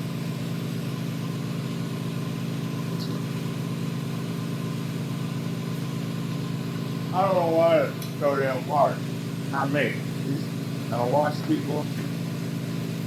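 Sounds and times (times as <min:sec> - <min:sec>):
shop machinery motor humming: 0:00.0 - 0:13.0.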